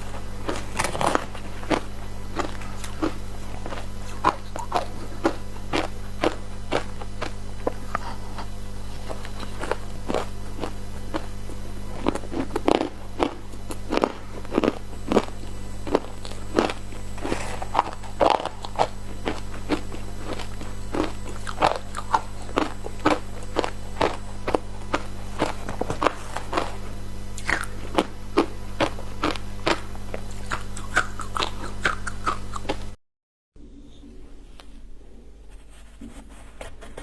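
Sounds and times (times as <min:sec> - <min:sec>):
ice crunching being chewed: 0:00.0 - 0:11.3, 0:11.9 - 0:26.8, 0:27.4 - 0:32.8.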